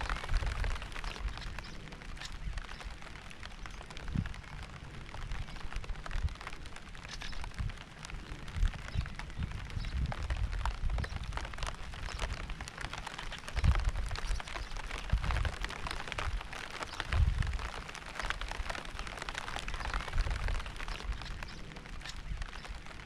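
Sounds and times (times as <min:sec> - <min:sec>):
rain with ticking drops: 0:00.0 - 0:23.0.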